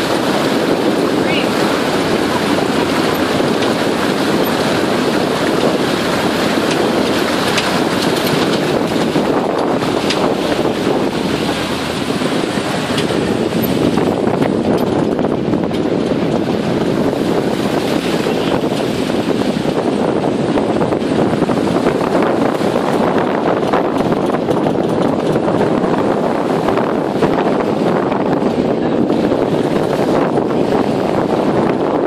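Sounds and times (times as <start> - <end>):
boat engine running: 0.0 - 32.0
wind buffeting microphone: 0.0 - 32.0.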